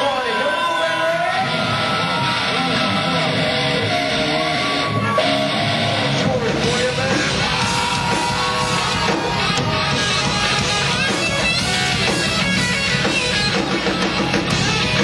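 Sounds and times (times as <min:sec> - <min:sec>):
live rock band playing: 0:00.0 - 0:15.0
distorted electric guitar: 0:01.1 - 0:15.0.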